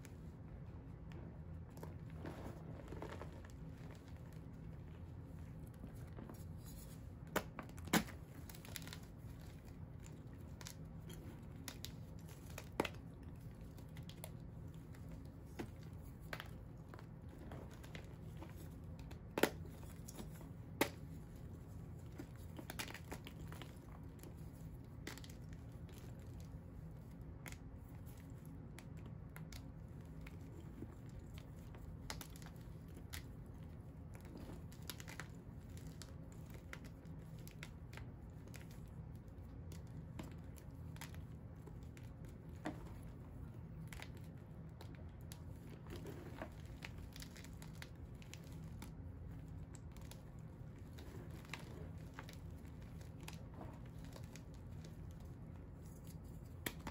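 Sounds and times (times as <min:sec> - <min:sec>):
faint low hum: 0:00.0 - 0:56.9
chalk crunching and crumbling: 0:01.2 - 0:56.9.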